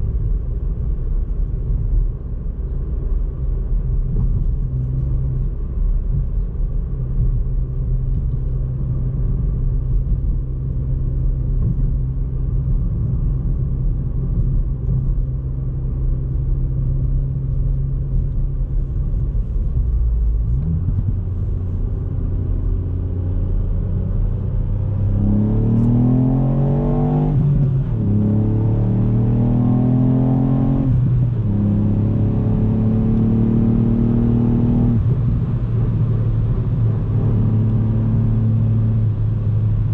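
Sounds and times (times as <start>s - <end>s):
car engine accelerating: 2.7s - 39.9s.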